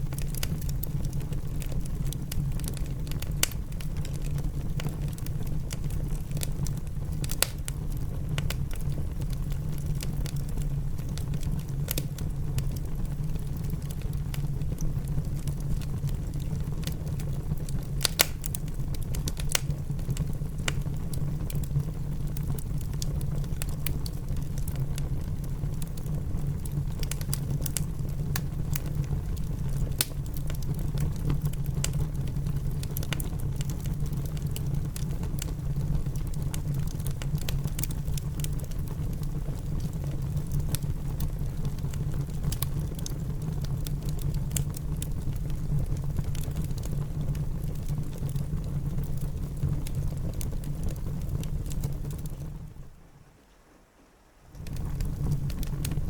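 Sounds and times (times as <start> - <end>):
wood fire crackling and popping: 0.0 - 53.0, 54.5 - 56.0
low rumble of rain: 0.0 - 56.0.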